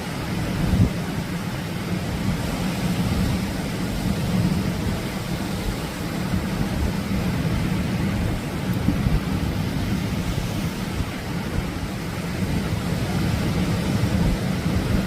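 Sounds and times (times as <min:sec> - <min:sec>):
low rumble of surf: 0:00.0 - 0:15.0
wind buffeting microphone: 0:00.0 - 0:15.0.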